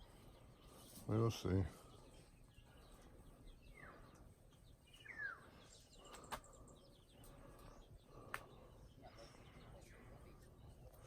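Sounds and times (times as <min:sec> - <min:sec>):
bird calling: 0:01.9 - 0:11.0.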